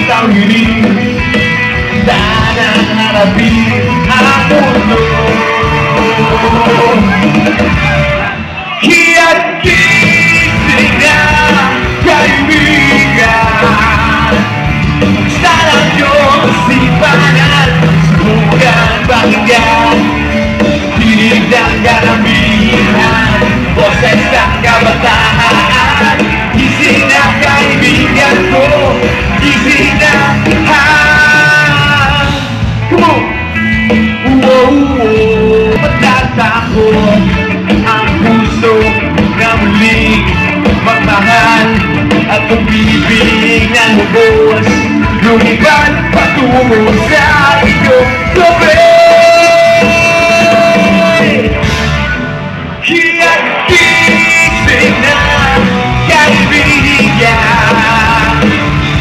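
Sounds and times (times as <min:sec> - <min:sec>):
man singing: 0:00.0 - 0:51.8, 0:52.8 - 0:59.0
bass guitar: 0:00.0 - 0:59.0
drums: 0:00.0 - 0:59.0
electric guitar: 0:00.0 - 0:59.0.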